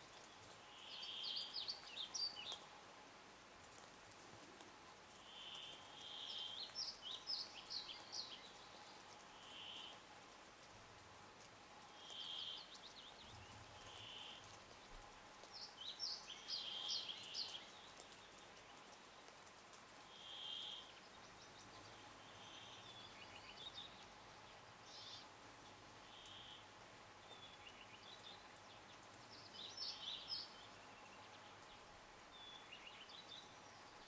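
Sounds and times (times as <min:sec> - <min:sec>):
songbird singing: 0:00.0 - 0:02.8, 0:05.1 - 0:10.1, 0:11.8 - 0:19.4, 0:20.0 - 0:34.0.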